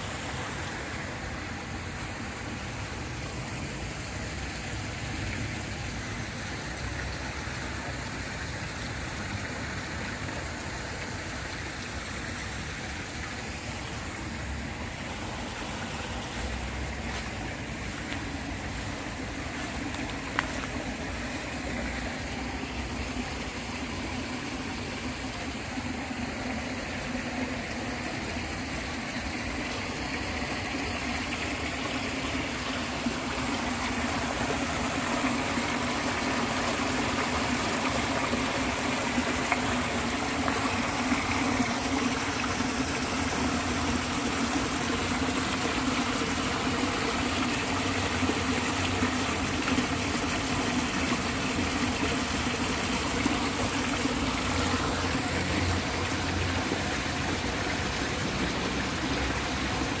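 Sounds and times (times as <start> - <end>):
water running in concrete channel: 0.0 - 60.0.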